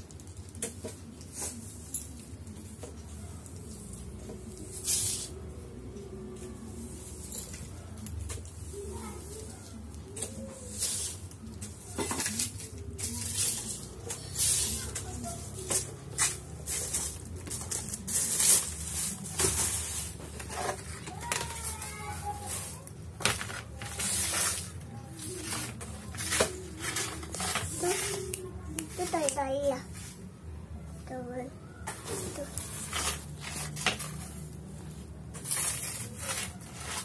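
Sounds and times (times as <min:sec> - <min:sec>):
broom sweeping tiled floor: 0:00.0 - 0:37.0.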